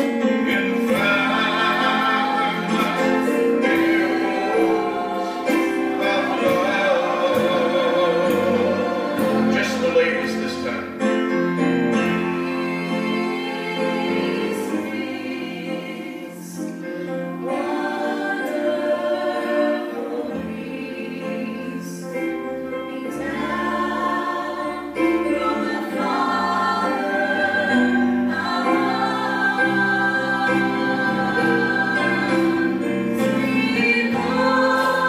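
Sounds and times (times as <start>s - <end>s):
women singing in harmony: 0.0s - 9.8s, 11.9s - 35.0s
electric keyboard: 0.0s - 35.0s.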